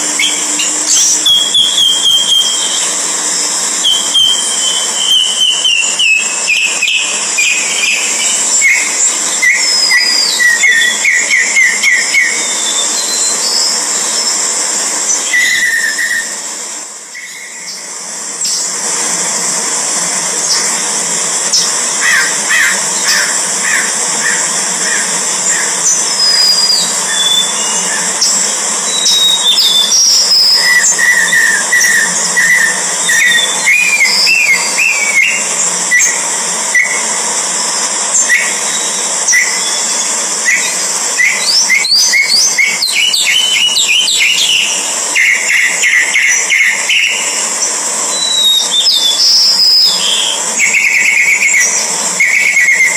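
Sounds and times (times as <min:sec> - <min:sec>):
birds chirping and whistling: 0:00.0 - 0:16.5, 0:17.1 - 0:19.0, 0:20.5 - 0:52.9
steady high hiss: 0:00.0 - 0:52.9.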